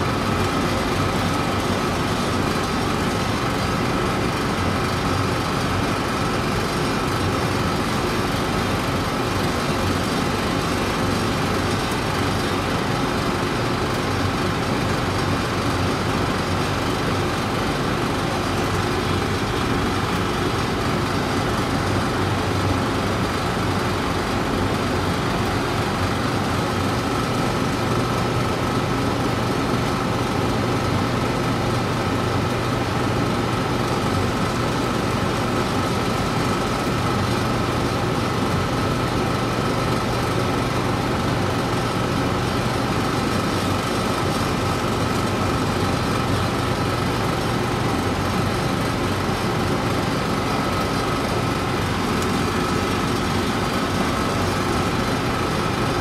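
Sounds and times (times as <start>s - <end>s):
stove blower fans whirring: 0.0s - 56.0s.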